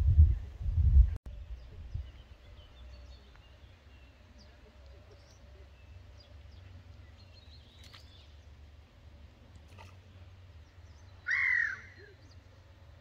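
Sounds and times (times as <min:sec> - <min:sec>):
faint birdsong chirps: 0:01.3 - 0:13.0.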